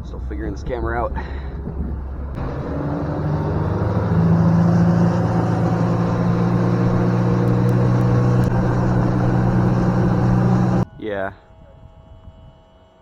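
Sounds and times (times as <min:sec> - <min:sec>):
engine running: 0:00.0 - 0:10.8.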